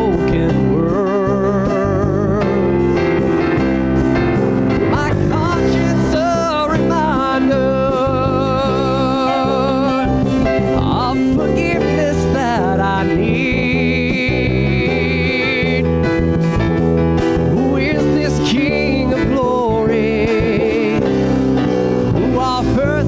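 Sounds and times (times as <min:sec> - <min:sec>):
acoustic guitar: 0:00.0 - 0:23.0
drums: 0:00.0 - 0:23.0
keyboard: 0:00.0 - 0:23.0.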